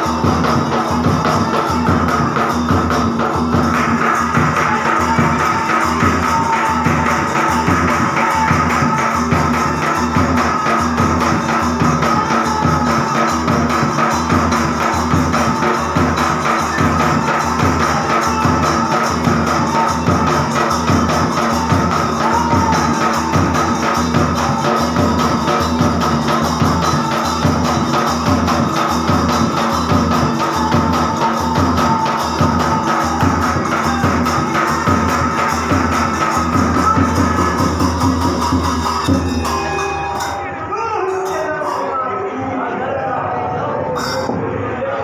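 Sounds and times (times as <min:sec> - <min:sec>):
driving drum beat: 0:00.0 - 0:40.5
jingling percussion: 0:00.0 - 0:42.4, 0:44.0 - 0:44.6.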